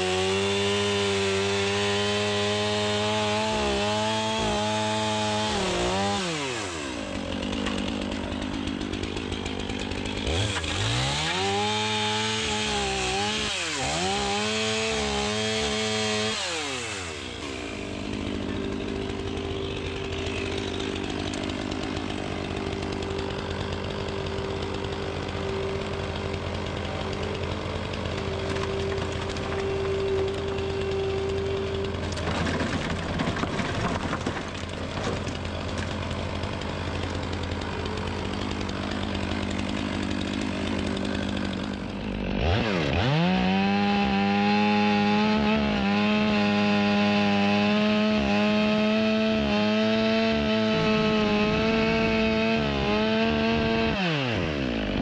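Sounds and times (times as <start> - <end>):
chainsaw cutting wood: 0.0 - 55.0
skid-steer loader engine running: 4.0 - 43.8, 49.8 - 55.0.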